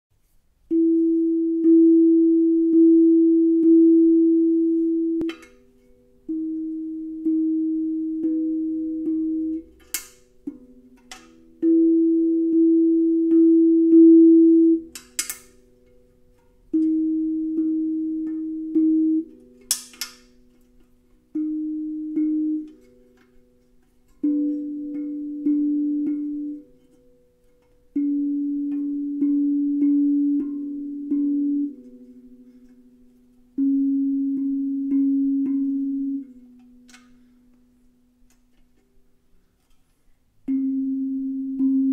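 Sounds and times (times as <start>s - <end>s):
steel tongue drum notes: 0.6s - 39.0s, 40.4s - 41.9s.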